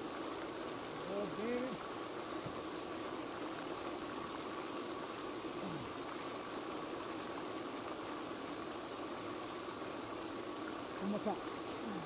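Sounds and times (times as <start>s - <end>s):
faint steady hum: 0.0s - 12.0s
fountain spray splashing: 0.0s - 12.0s.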